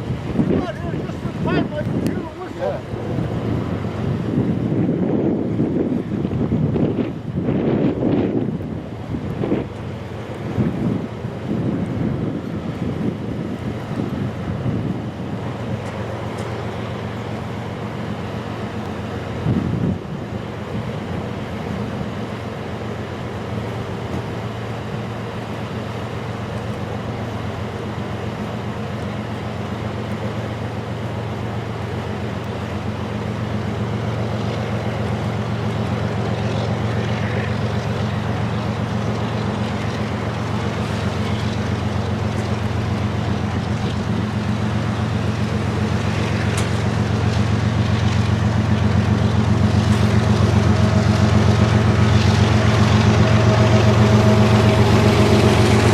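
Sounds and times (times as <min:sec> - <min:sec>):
locomotive engines humming: 0:00.0 - 0:55.9.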